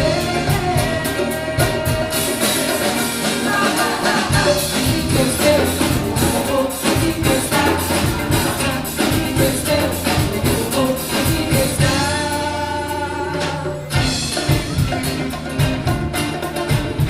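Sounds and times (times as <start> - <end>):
band playing a song with singing: 0.0 - 17.0.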